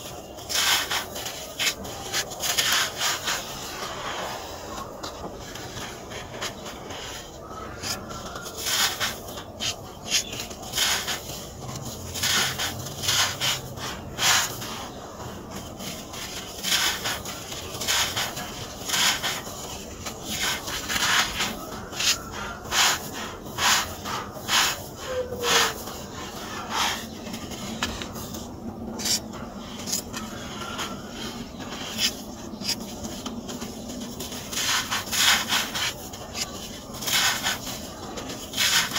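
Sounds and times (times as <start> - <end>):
low rubbing grit: 0.2 - 38.9.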